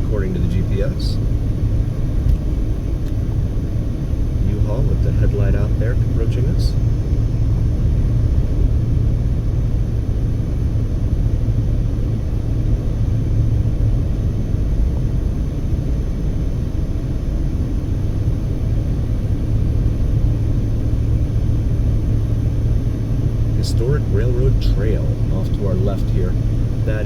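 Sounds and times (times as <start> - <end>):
car driving road noise: 0.0 - 27.0.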